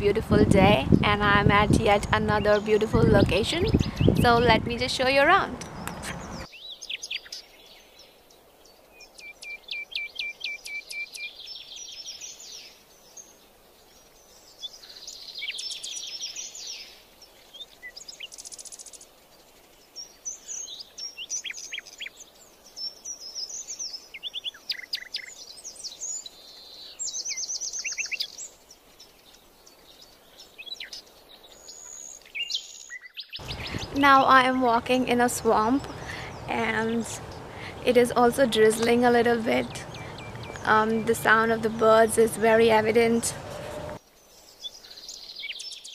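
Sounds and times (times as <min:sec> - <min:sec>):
birds singing and chirping: 0:00.0 - 0:45.9.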